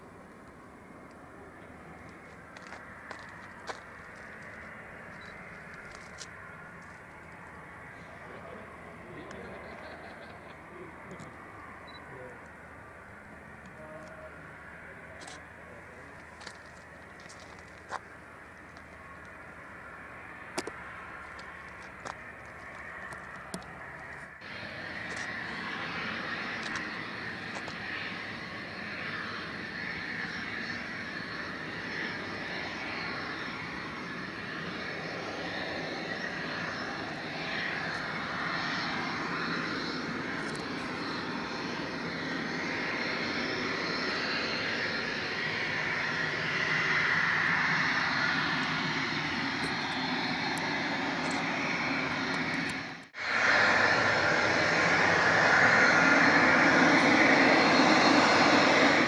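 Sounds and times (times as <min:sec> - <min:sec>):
jet engines hissing and whining: 0:00.0 - 0:59.0.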